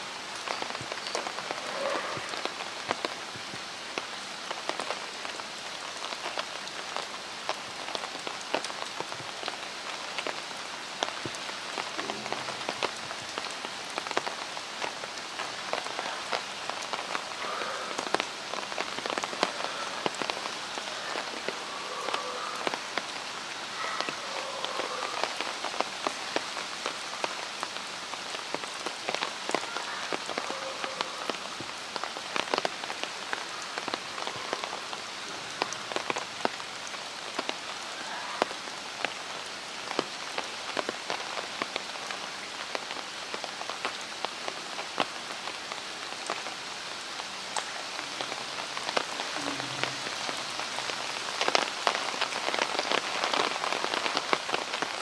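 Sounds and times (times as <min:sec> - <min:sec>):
rain on wet concrete: 0:00.0 - 0:55.0.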